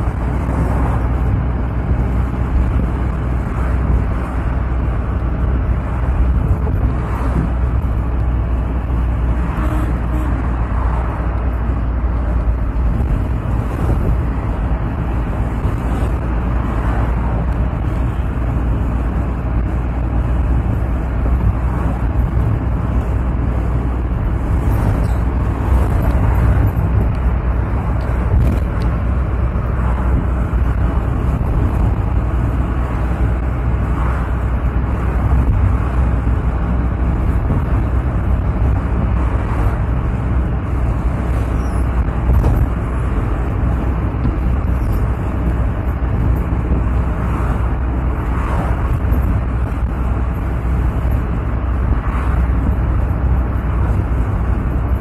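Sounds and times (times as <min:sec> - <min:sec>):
low engine drone: 0:00.0 - 0:55.0
tyre and wind noise: 0:00.0 - 0:55.0.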